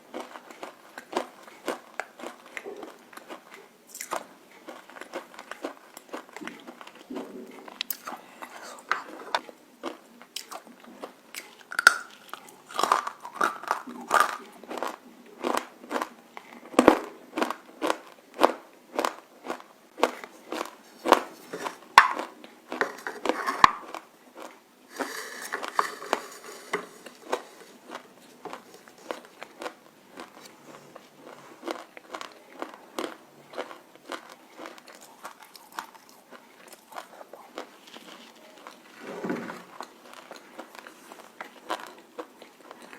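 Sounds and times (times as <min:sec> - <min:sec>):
crunchy food being chewed: 0:00.0 - 0:39.0, 0:39.6 - 0:42.9.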